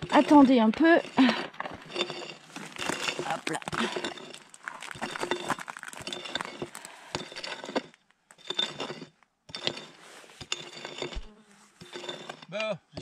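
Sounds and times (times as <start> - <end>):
pick digging stony soil: 0.0 - 13.0.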